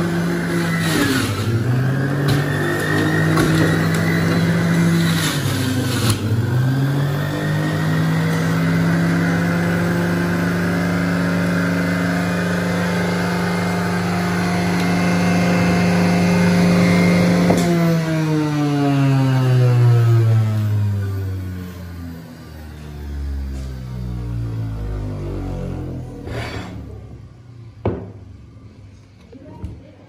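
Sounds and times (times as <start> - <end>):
juicer motor humming: 0.0 - 27.4.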